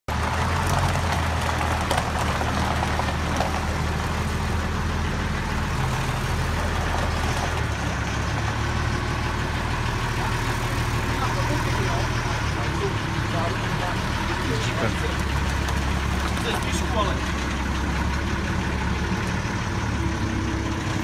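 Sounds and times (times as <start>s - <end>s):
forklift engine idling: 0.1s - 21.0s.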